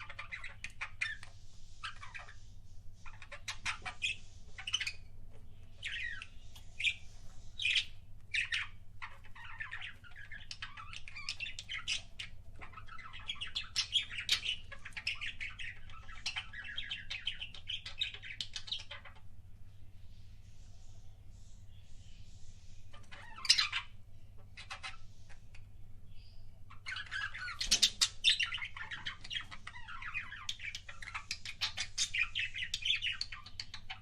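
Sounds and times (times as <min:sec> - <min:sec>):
budgerigars chirping and chattering: 0:00.0 - 0:19.4, 0:20.6 - 0:34.0.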